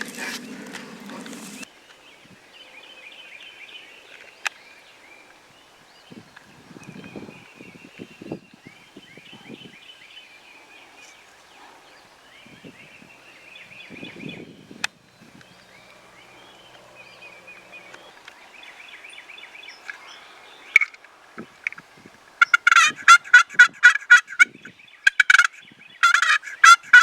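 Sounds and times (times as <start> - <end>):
leaves rustling: 0.0 - 25.8
songbirds chirping: 0.0 - 27.0.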